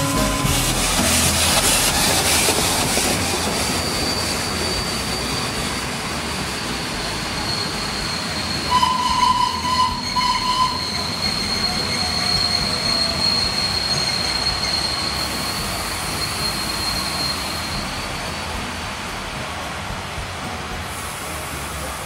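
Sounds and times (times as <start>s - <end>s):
high-pitched wheel squeal: 0.0s - 18.9s
train wheels running on rails: 0.0s - 22.0s.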